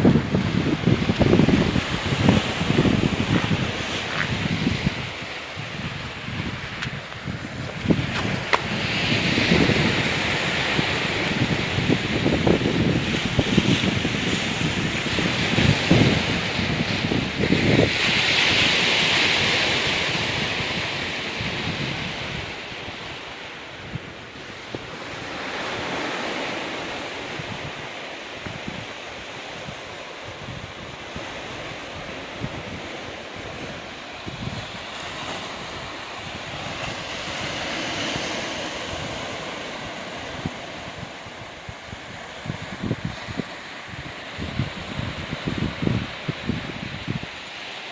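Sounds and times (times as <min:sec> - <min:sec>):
wind buffeting microphone: 0:00.0 - 0:47.5
waves washing on rocky beach: 0:00.0 - 0:47.9.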